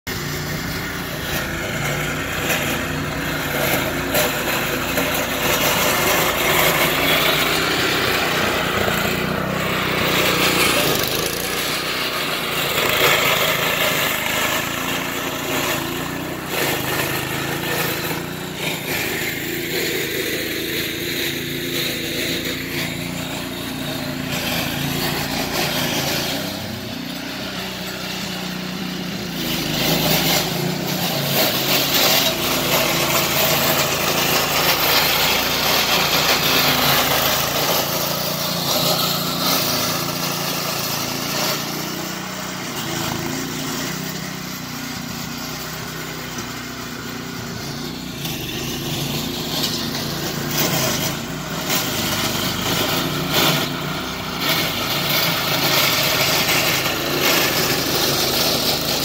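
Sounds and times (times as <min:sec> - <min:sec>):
small petrol engine droning: 0:00.0 - 0:59.0
tines ripping thatch from lawn: 0:00.1 - 0:59.0.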